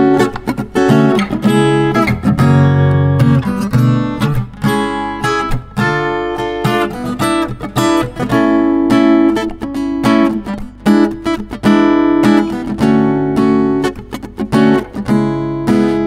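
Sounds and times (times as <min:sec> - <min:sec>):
acoustic guitar plucked notes and chords: 0:00.0 - 0:16.0.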